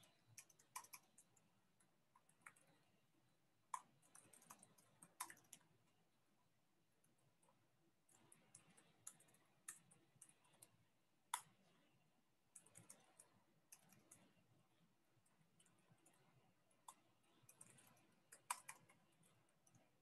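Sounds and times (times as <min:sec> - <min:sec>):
faint keyboard typing: 0:00.0 - 0:20.0.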